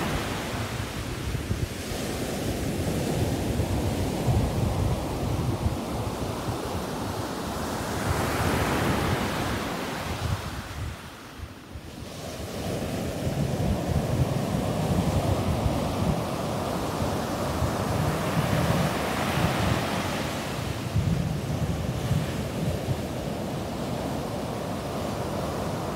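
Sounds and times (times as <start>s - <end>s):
ocean surf breaking: 0.0s - 11.0s, 11.9s - 25.9s
wind on microphone: 0.0s - 25.9s.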